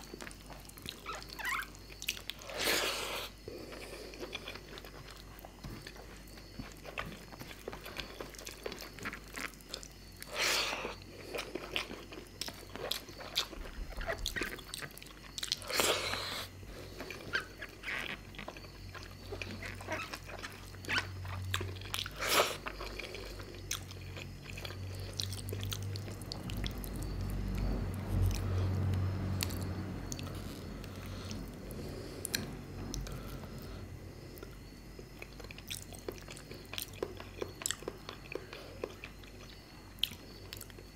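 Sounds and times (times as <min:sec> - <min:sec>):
chewing and biting: 0:00.0 - 0:33.6, 0:34.4 - 0:40.9.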